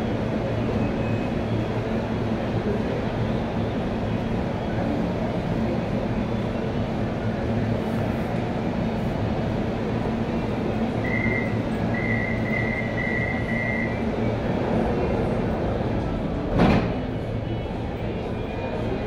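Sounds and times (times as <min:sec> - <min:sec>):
train humming at platform: 0:00.0 - 0:19.0.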